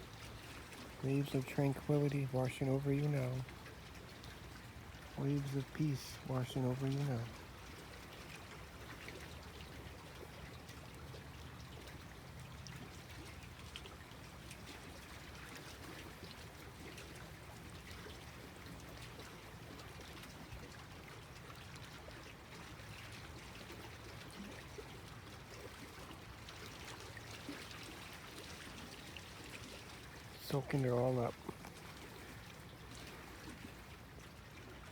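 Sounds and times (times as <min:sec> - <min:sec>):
lake waves lapping at shore: 0:00.0 - 0:34.9.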